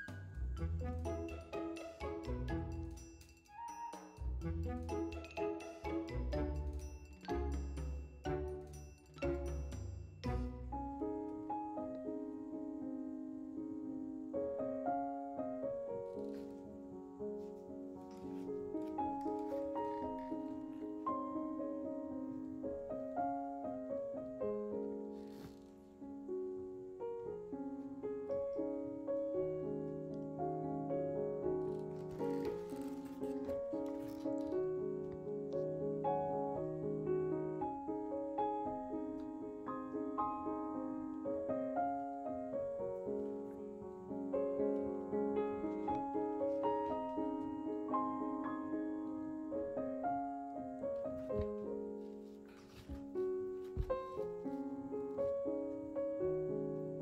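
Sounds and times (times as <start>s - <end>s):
gentle piano music: 0.0s - 57.0s.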